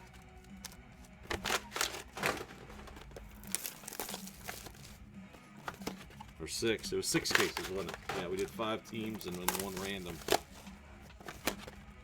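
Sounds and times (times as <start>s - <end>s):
packaging crinkling: 0.0s - 11.8s.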